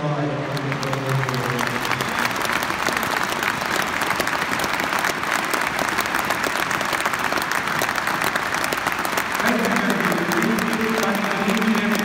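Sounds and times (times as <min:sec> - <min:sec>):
stadium crowd applauding: 0:00.0 - 0:12.0.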